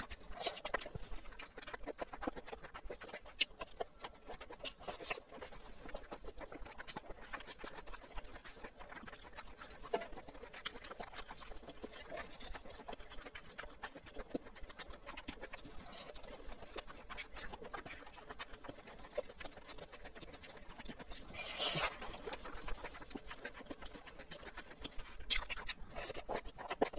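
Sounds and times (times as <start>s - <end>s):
wet chewing: 0.0s - 26.9s.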